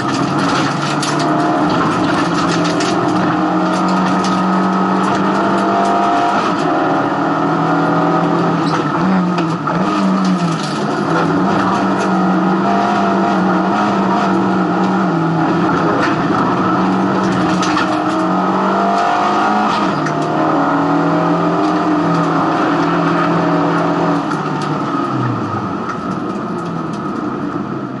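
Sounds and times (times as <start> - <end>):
race car engine running hard: 0.0 - 28.0.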